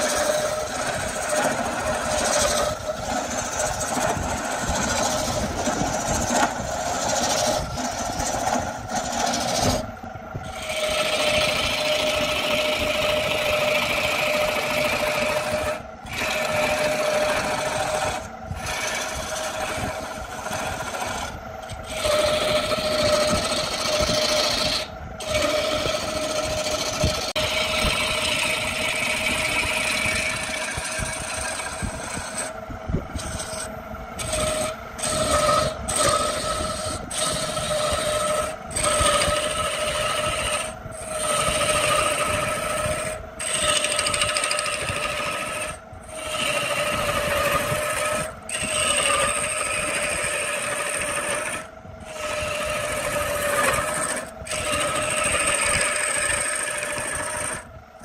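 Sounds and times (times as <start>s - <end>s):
wood lathe running: 0.0s - 57.7s
tool scraping spinning wood: 0.0s - 58.0s.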